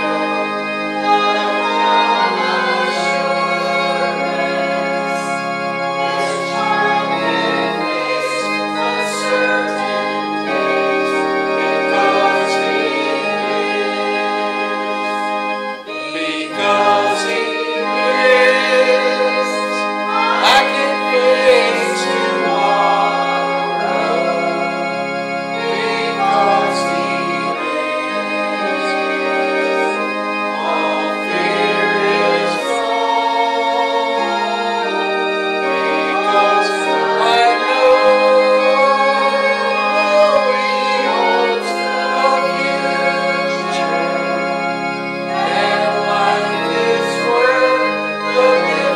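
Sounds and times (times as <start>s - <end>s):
organ chords: 0.0s - 48.9s
voices singing a hymn: 0.0s - 48.9s.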